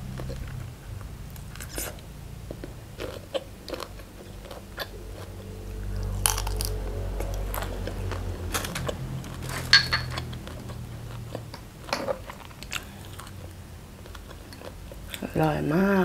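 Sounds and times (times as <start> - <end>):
person chewing: 1.3 - 15.2.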